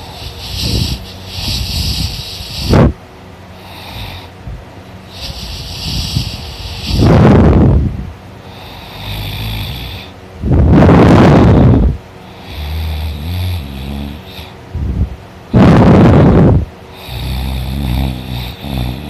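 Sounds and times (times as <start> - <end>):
man snoring loudly: 0.0 - 2.9, 3.5 - 4.4, 5.1 - 7.8, 8.4 - 14.6, 15.5 - 19.0
buzzing hissing breaths: 0.0 - 19.0.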